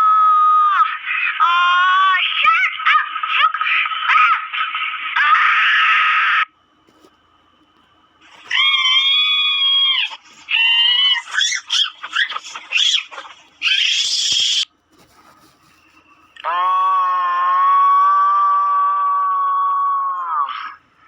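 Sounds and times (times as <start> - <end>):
high-pitched screams: 0.0 - 6.5, 8.3 - 14.7, 16.4 - 20.8.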